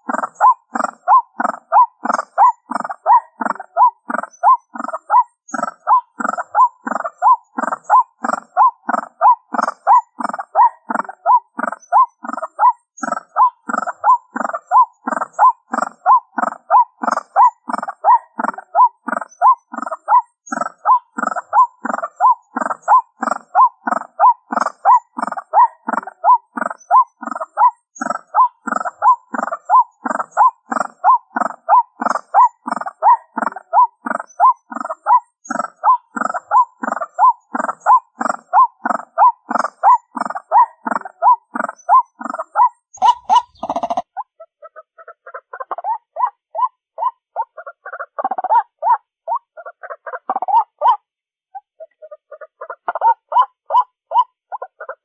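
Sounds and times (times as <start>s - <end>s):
waterhen call through small speaker: 0.0s - 45.8s.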